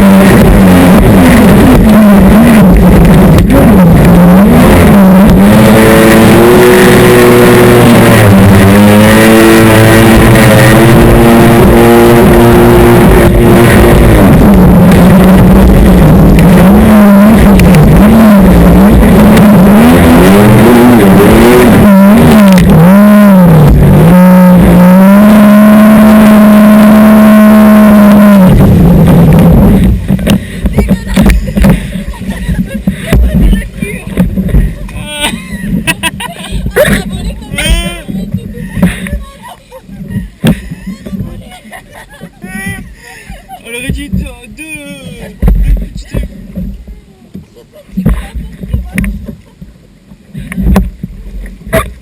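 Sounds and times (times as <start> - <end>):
jet ski engine revving: 0.0 - 52.0.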